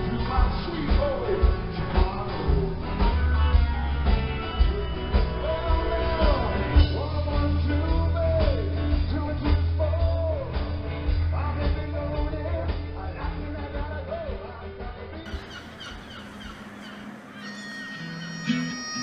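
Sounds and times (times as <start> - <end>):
electric guitar: 0.0 - 15.4
drums: 0.0 - 19.0
live rock band playing: 0.0 - 19.0.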